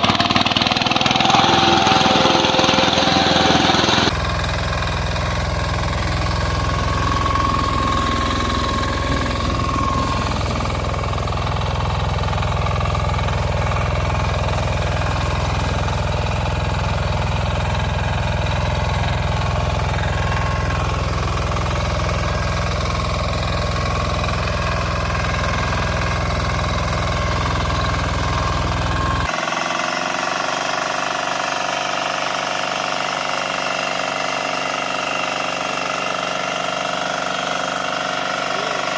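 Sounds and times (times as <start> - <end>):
small tractor engine running: 0.0 - 38.9
thinner engine sound: 0.0 - 38.9.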